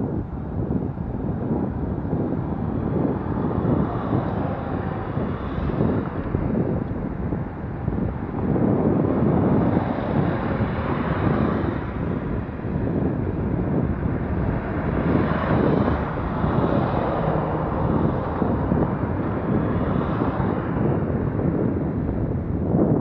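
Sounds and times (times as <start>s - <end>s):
road rumble: 0.0s - 23.0s
wind buffeting microphone: 0.0s - 23.0s.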